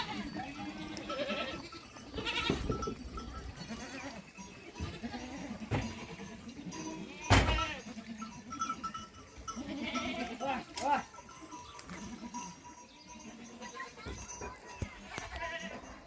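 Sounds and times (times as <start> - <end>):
sheep and goats bleating: 0.0 - 16.0.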